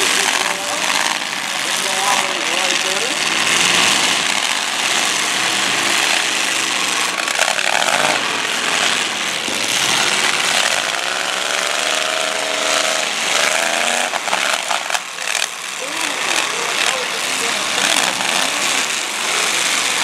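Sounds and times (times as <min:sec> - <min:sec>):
car engines revving: 0:00.0 - 0:20.0
thick rushing noise: 0:00.0 - 0:20.0
wheels spinning in mud: 0:00.0 - 0:20.0.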